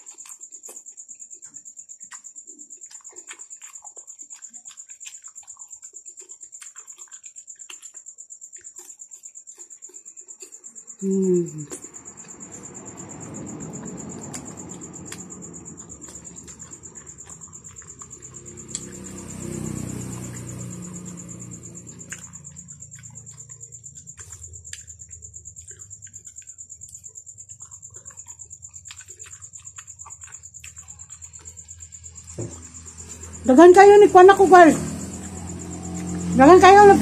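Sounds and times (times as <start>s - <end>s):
chewing soft fruit: 0.0s - 37.0s.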